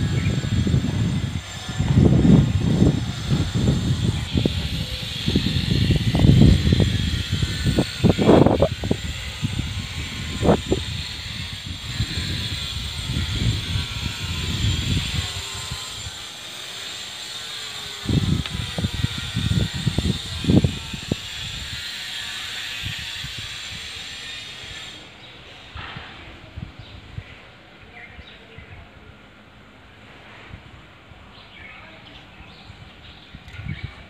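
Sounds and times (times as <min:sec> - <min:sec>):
wind buffeting microphone: 0:00.0 - 0:16.3, 0:16.9 - 0:25.0, 0:25.7 - 0:27.5, 0:32.2 - 0:34.0.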